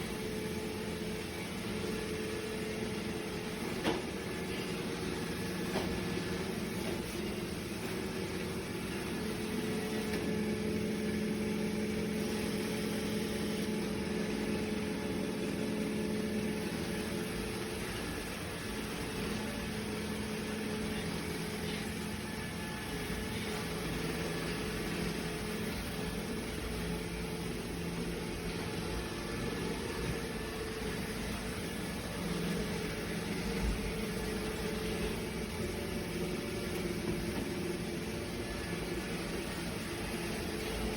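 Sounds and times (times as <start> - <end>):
robot vacuum motor hum: 0.0 - 40.9.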